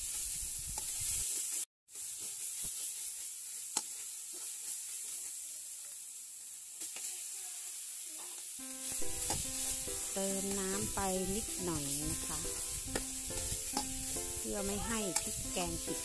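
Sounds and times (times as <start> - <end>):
curry paste sizzling in oil: 0.0 - 16.0.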